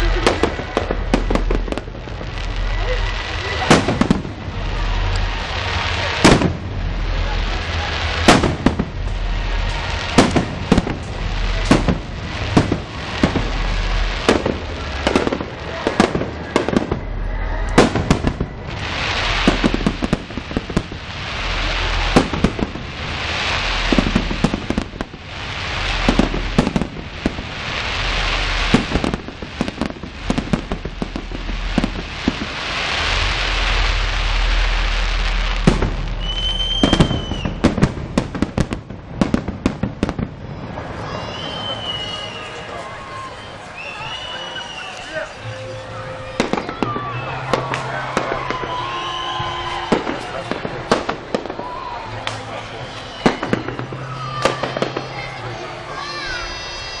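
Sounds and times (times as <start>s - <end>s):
firework whistling: 0.0s - 55.4s
firework crackling: 0.0s - 57.0s.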